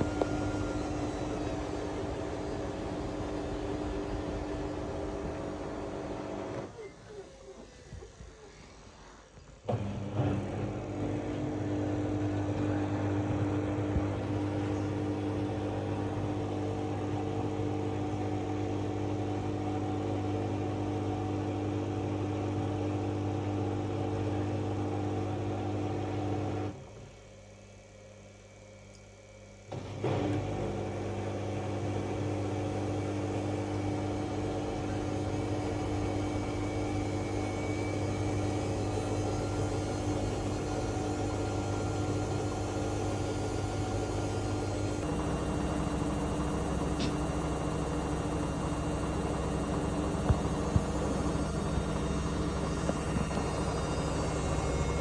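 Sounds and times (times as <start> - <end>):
washing machine humming: 0.0 - 55.0.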